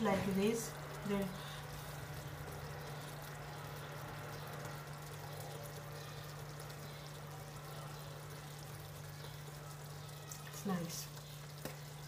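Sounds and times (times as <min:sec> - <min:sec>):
sauce bubbling in a pan: 0:00.0 - 0:12.0.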